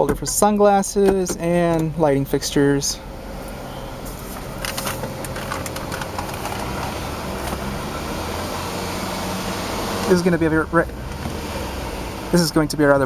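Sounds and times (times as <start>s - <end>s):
car cabin low hum: 0.0s - 13.0s.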